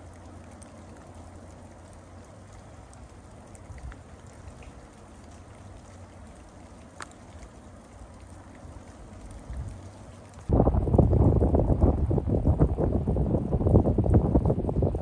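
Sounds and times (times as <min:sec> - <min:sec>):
low rumble of wind: 0:00.0 - 0:15.0
steady rain falling: 0:00.0 - 0:15.0.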